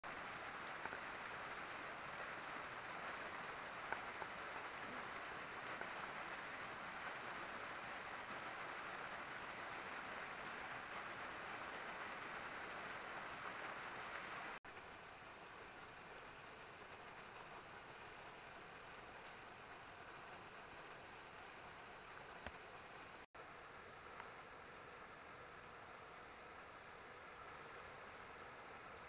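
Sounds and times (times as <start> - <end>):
small waterfall and stream rushing: 0.0 - 29.0.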